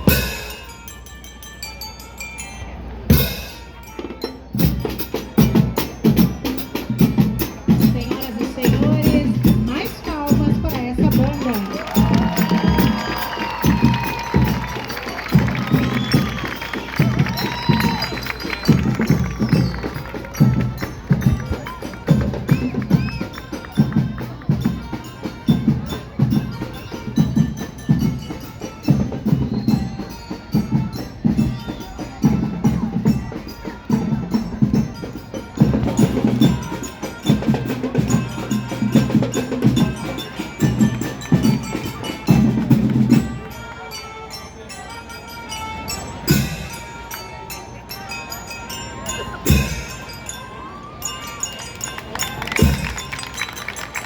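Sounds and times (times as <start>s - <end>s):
drums beating march rhythm: 0.0s - 1.1s, 3.0s - 44.7s, 45.5s - 50.4s, 51.8s - 54.0s
marching band playing: 0.0s - 1.3s, 1.9s - 54.0s
bell-like mallet instruments: 0.0s - 54.0s.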